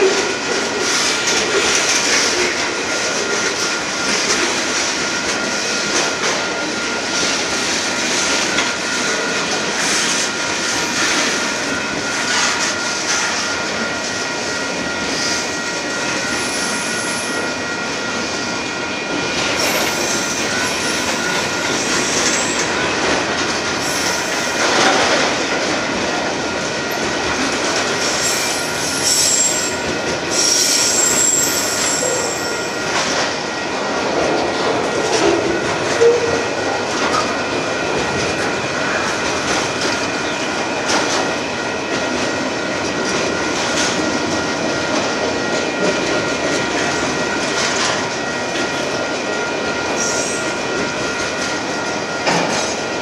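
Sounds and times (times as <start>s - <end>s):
freight train rolling on rails: 0.0s - 53.0s.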